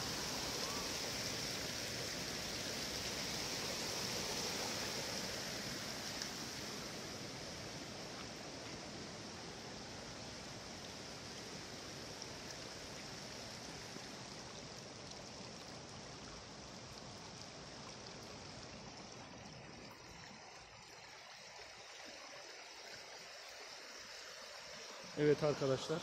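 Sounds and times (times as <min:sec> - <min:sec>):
stream water rushing over rocks: 0:00.0 - 0:26.0.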